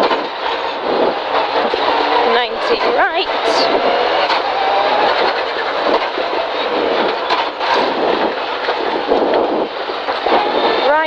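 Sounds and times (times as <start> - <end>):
car engine running hard: 0.0 - 11.0
gearbox downshift: 0.0 - 11.0.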